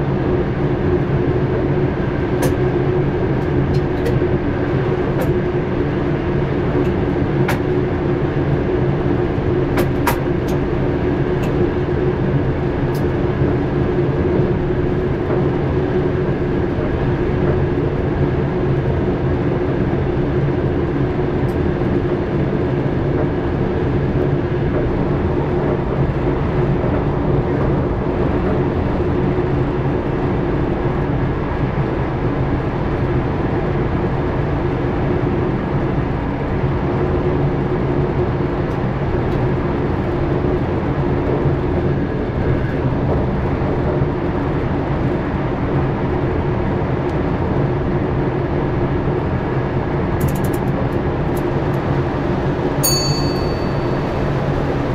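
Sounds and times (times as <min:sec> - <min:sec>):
constant hum: 0:00.0 - 0:54.9
train rumble: 0:00.0 - 0:54.9.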